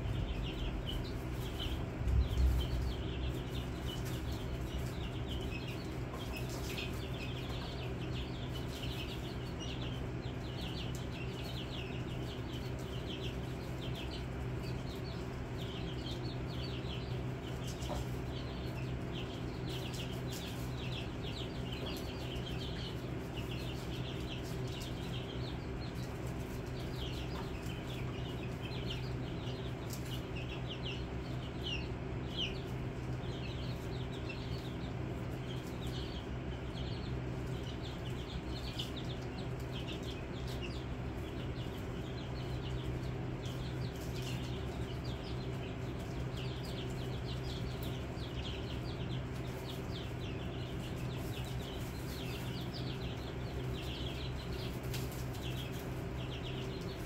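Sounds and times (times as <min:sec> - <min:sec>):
chicks peeping: 0:00.0 - 0:57.0
steady low hum: 0:00.0 - 0:57.0.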